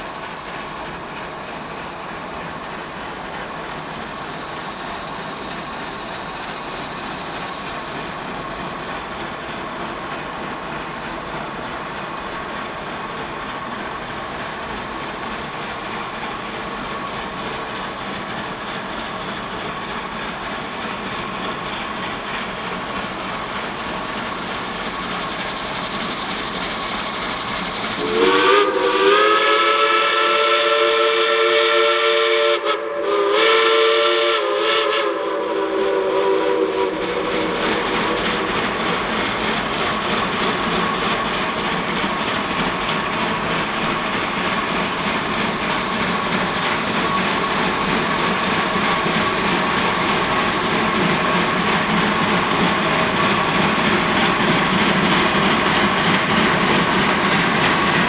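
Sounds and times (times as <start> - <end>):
steam locomotive running: 0.0 - 58.0
multi-chime steam whistle: 2.7 - 58.0.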